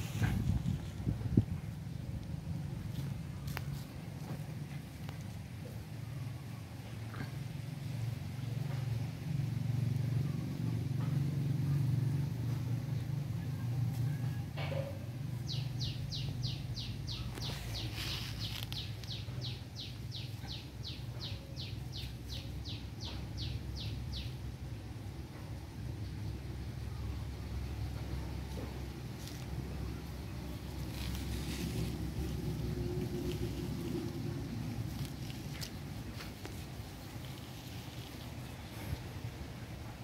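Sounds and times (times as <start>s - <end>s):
steady low rumble: 0.0s - 14.2s, 15.1s - 40.0s.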